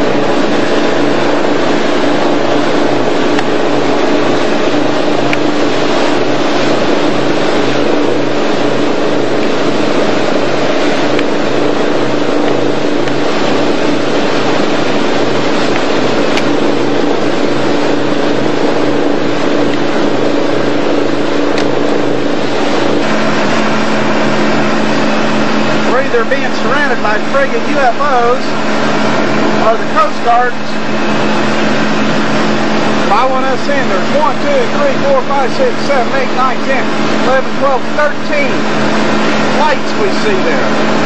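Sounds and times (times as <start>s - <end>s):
motorboat engine running: 0.0s - 41.0s
rushing water noise: 0.0s - 41.0s.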